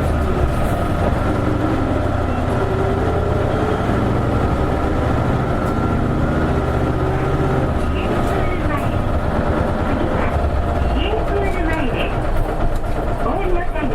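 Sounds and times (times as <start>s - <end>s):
bus engine low hum: 0.0s - 13.9s
road noise: 0.0s - 13.9s.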